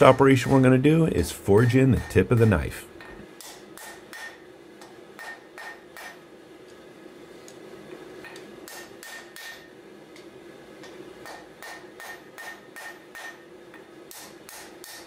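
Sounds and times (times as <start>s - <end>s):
hammer striking hot steel on anvil: 0.0s - 6.3s, 8.2s - 15.0s.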